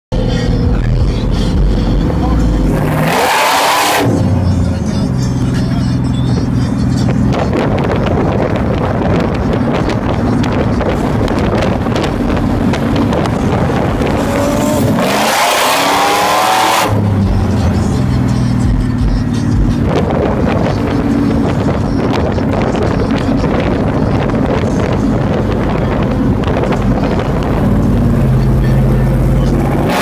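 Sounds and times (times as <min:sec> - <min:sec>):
racing car engines: 0:00.1 - 0:30.0
road and wind rush: 0:00.1 - 0:30.0.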